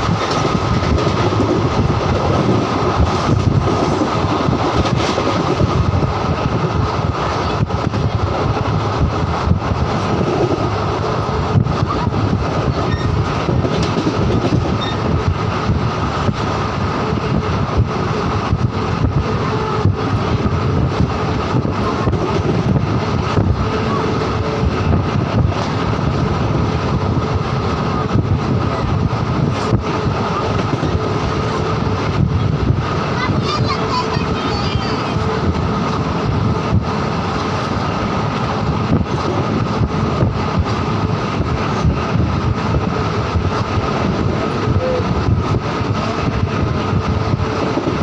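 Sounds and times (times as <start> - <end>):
sharp clicks of train: 0.0 - 48.0
train rumbling and rattling: 0.0 - 48.0.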